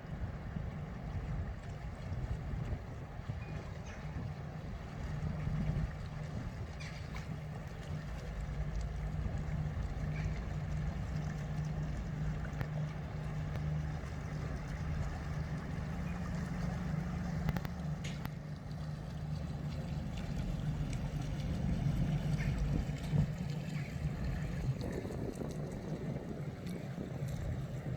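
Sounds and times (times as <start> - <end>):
ship engine droning low: 0.0 - 27.9.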